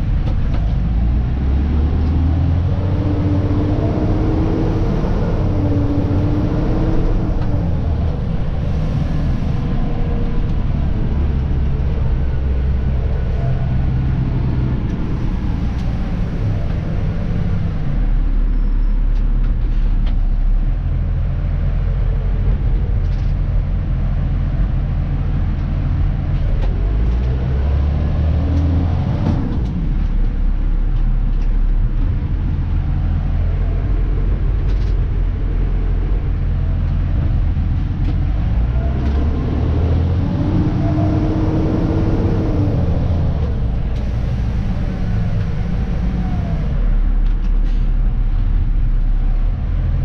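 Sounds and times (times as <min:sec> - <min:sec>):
truck diesel engine running: 0:00.0 - 0:50.0.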